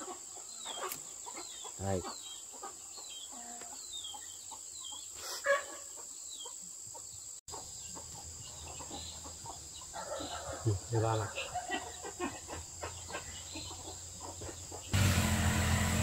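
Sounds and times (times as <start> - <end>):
chickens peeping: 0.0 - 15.0.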